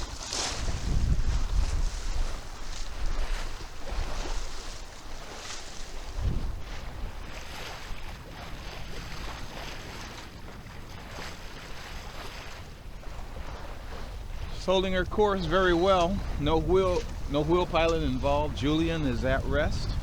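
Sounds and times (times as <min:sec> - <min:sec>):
water rushing along boat hull: 0:00.0 - 0:20.0
wind buffeting microphone: 0:00.0 - 0:20.0.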